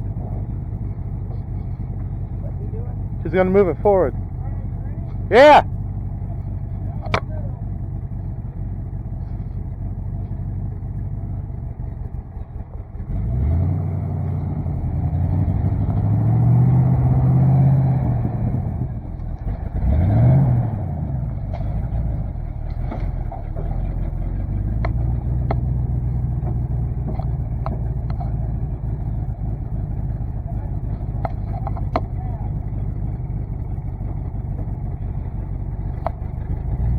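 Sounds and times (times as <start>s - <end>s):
truck engine idling and revving: 0.0s - 36.9s.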